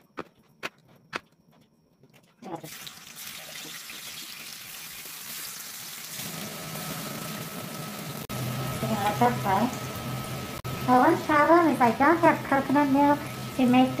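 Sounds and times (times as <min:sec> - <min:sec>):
tofu sizzling in oil: 0:02.7 - 0:14.0.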